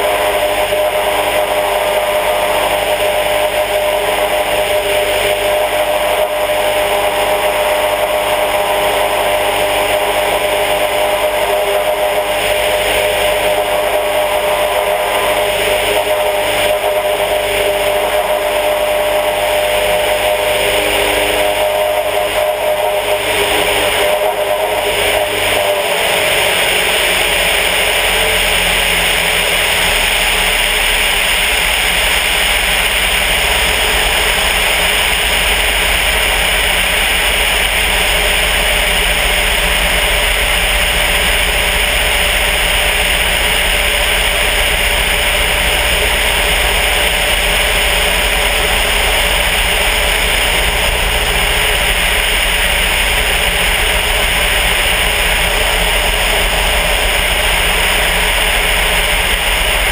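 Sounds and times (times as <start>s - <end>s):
airplane engine drone: 0.0s - 59.9s
rushing airflow: 0.0s - 59.9s.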